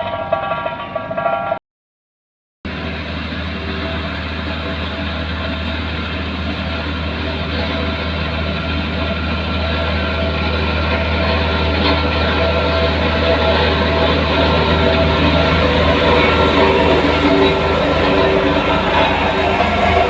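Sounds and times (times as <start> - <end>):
heavy diesel engine running: 2.7 - 20.0.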